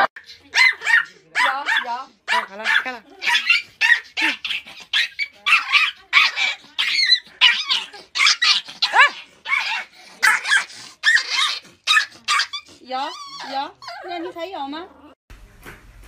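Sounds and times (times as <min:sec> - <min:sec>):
dog yapping: 0:00.0 - 0:14.2.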